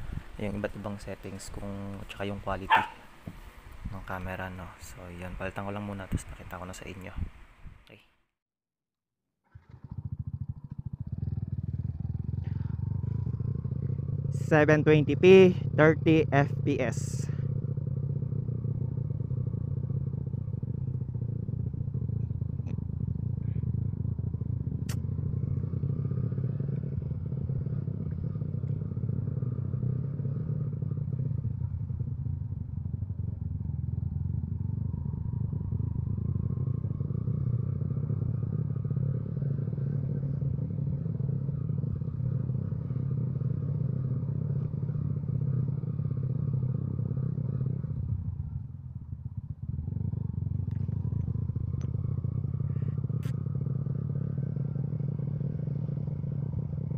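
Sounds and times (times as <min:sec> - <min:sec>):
motorcycle engine rumble: 0:00.0 - 0:08.0, 0:09.5 - 0:56.9
road noise: 0:00.0 - 0:08.2, 0:09.5 - 0:56.9.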